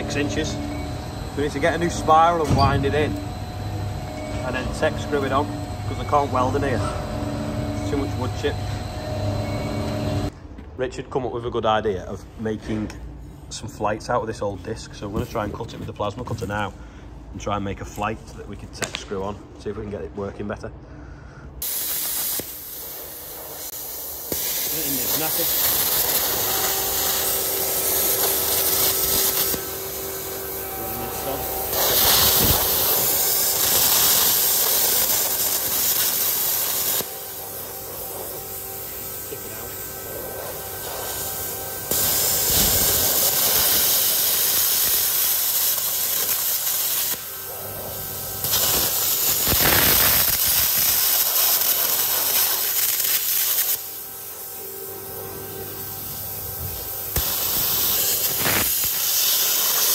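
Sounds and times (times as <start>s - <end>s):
plasma cutter hissing: 0.0s - 10.3s, 21.6s - 59.9s.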